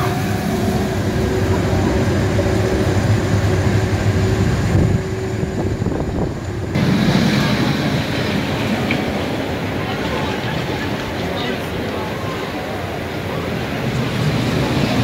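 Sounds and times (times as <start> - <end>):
roller coaster rumbling: 0.0 - 15.0.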